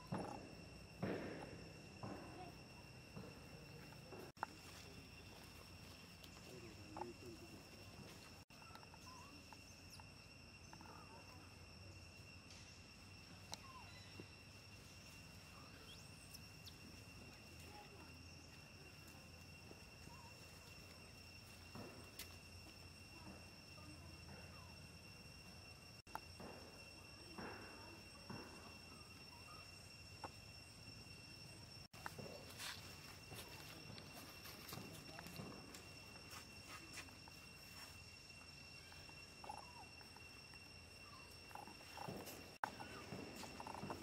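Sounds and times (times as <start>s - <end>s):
steady high-pitched hum: 0.0s - 44.0s.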